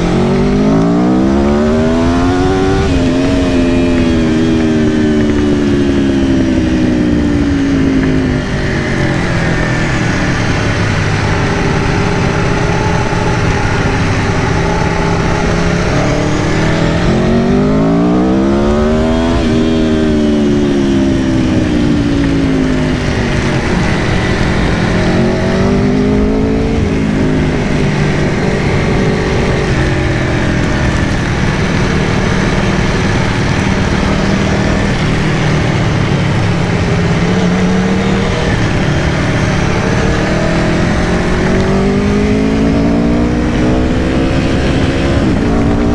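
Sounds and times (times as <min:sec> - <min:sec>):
motorcycle engine accelerating: 0:00.0 - 0:45.9
steady rushing noise: 0:00.0 - 0:45.9.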